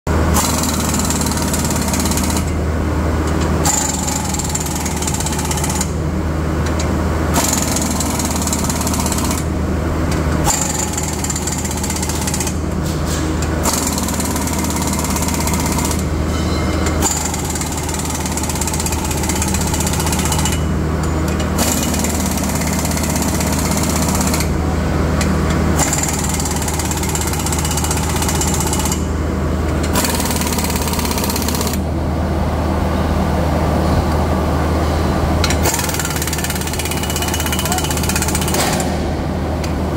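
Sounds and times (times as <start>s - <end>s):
machinery low hum: 0.1s - 39.9s.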